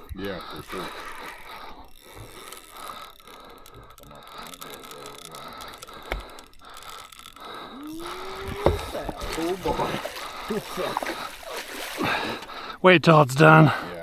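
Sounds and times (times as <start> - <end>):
fishing reel ratcheting: 0.0 - 14.0.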